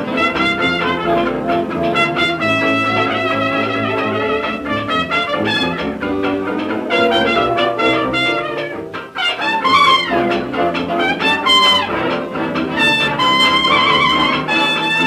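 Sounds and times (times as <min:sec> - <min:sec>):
jazz band playing: 0:00.0 - 0:15.0
trumpet lead: 0:00.0 - 0:15.0.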